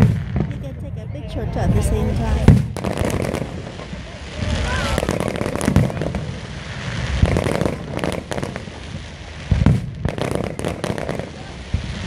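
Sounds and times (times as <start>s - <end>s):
fireworks booming and crackling: 0.0s - 12.0s
fireworks sharp bangs: 0.0s - 12.0s.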